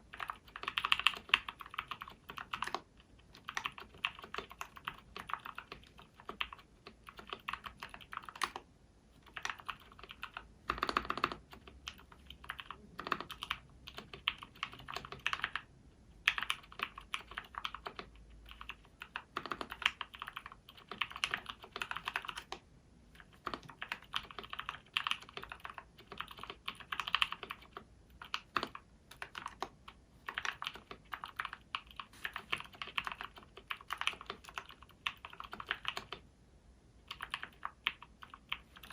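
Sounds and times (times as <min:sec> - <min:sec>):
mechanical keyboard typing: 0:00.0 - 0:22.6, 0:23.2 - 0:36.2, 0:37.0 - 0:38.9.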